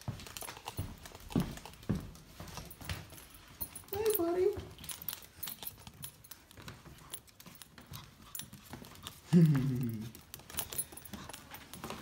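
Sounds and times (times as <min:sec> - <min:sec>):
puppy claws clicking on floor: 0:00.0 - 0:12.0.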